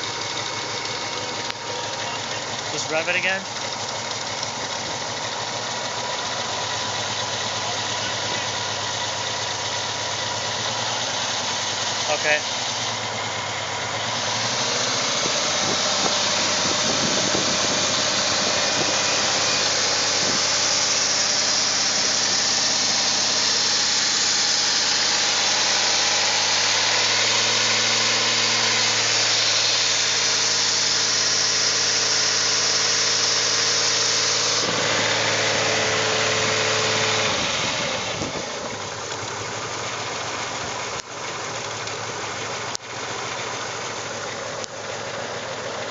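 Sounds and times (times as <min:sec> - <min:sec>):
misfiring car engine: 0:00.0 - 0:45.9.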